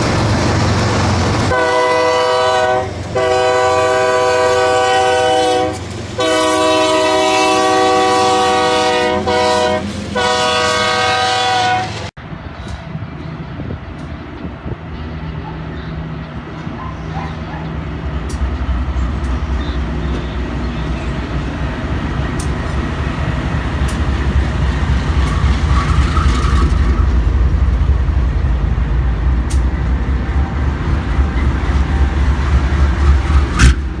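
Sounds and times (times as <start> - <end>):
locomotive engines rumbling: 0.0 - 34.0.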